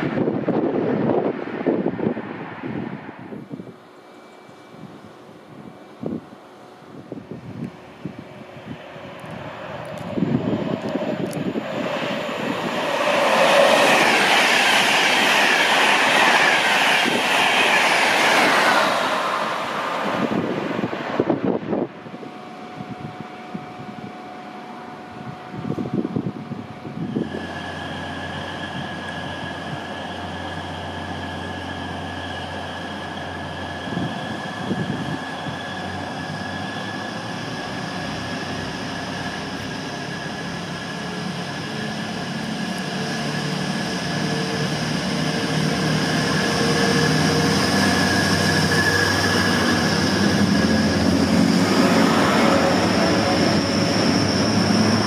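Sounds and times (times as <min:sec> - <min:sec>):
train high whine: 0:00.0 - 0:55.0.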